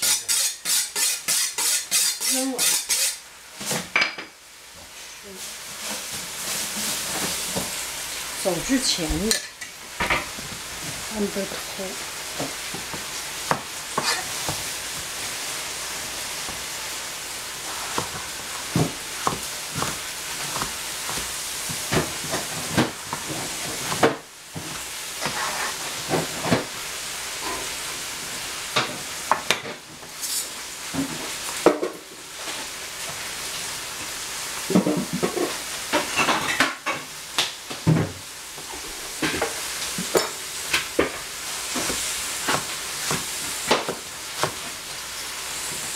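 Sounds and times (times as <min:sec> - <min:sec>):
food sizzling in a pan: 0:00.0 - 0:45.9.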